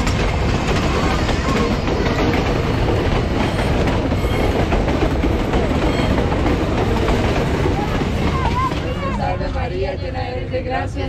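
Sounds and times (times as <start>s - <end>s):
train passing on rails: 0.0s - 11.0s.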